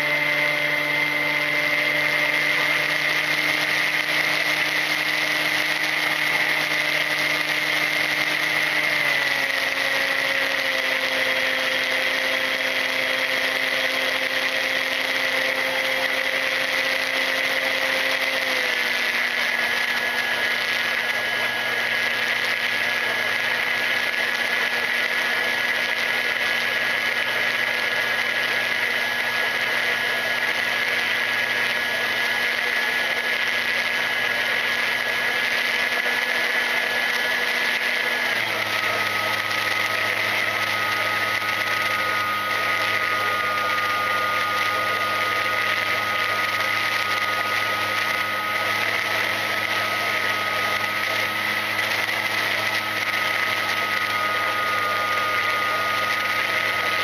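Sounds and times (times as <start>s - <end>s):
electric motor and propeller: 0.0s - 57.0s.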